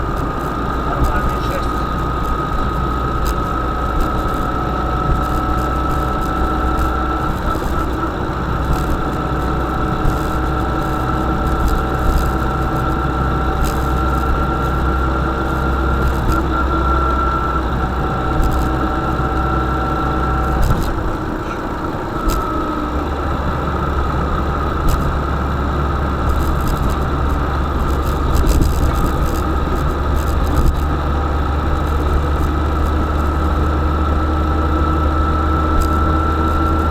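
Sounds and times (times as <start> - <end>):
drivetrain whine: 0.0 - 36.9
van engine running: 0.0 - 36.9.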